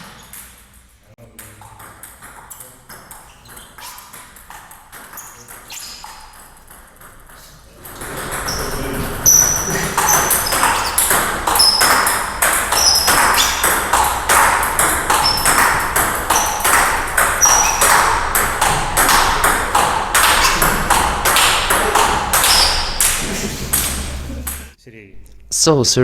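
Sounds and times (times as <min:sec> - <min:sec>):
table tennis ball pocks: 0:01.4 - 0:24.8.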